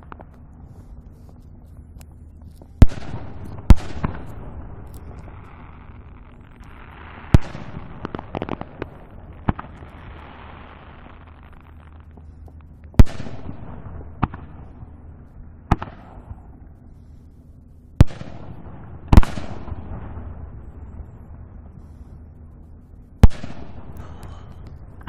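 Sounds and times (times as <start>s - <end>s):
firework crackling: 0.0s - 25.0s
distant firework bangs: 2.6s - 17.1s, 18.0s - 22.2s, 23.2s - 25.0s.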